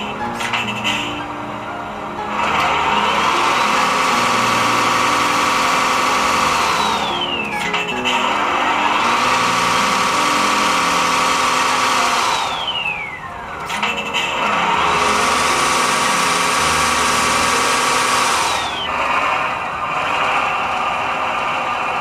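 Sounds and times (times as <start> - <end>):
electric pump motor whining: 0.0 - 22.0.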